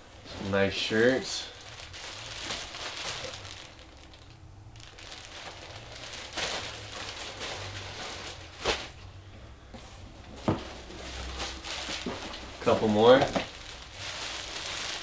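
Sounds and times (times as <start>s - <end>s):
packaging rustling and crinkling: 0.1s - 9.2s, 9.8s - 15.0s.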